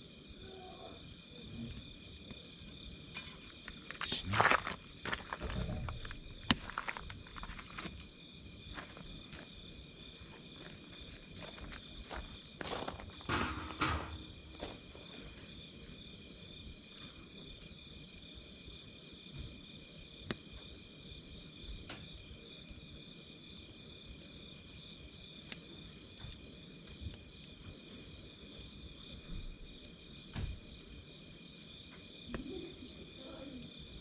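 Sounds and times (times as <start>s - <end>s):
crickets chirring: 0.0s - 34.0s
campfire crackling and popping: 1.7s - 34.0s.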